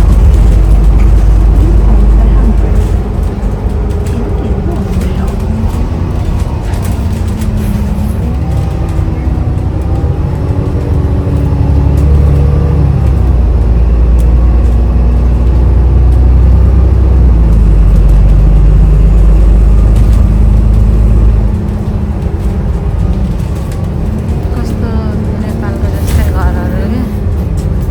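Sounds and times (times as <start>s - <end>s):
bus engine rumbling: 0.0s - 27.9s.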